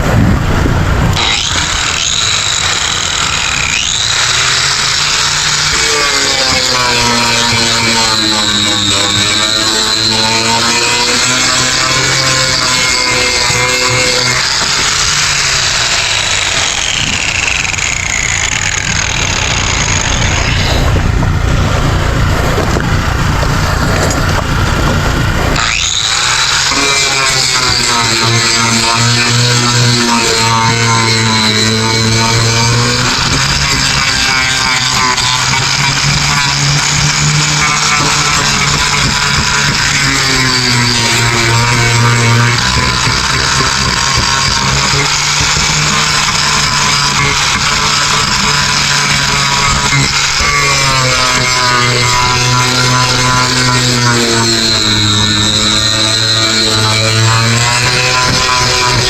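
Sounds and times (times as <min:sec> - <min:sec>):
generator engine running: 0:00.0 - 0:59.0
motor humming: 0:00.0 - 0:59.0
power sander whine and grinding: 0:00.0 - 0:59.0.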